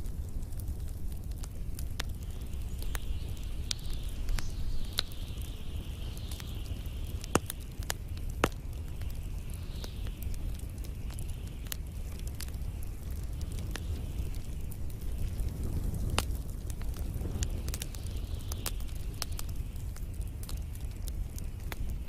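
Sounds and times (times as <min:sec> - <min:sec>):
fire crackling and popping: 0:00.0 - 0:22.0
soft hiss: 0:00.0 - 0:22.0
steady low rumble: 0:00.0 - 0:22.0.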